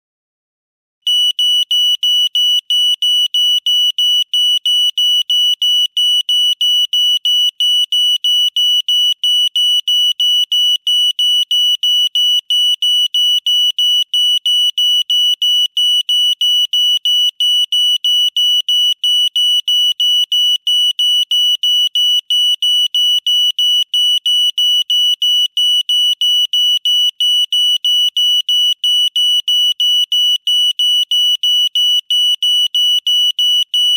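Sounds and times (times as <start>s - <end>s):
fire alarm beeping: 1.0s - 33.9s.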